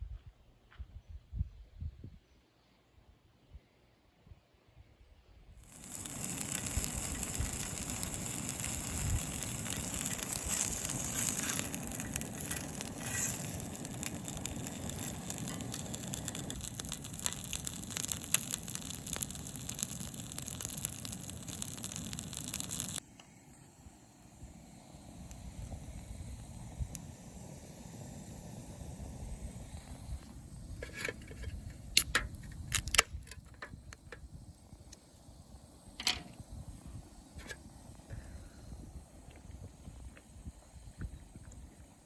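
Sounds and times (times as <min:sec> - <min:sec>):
campfire crackling: 0:05.6 - 0:42.0.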